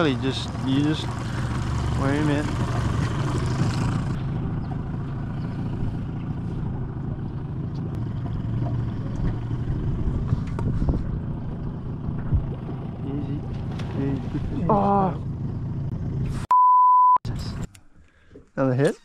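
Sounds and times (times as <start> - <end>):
boat motor running: 0.0 - 16.4.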